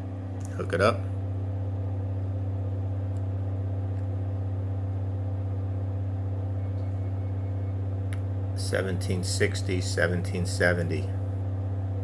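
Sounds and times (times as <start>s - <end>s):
generator and motor humming: 0.0s - 12.0s.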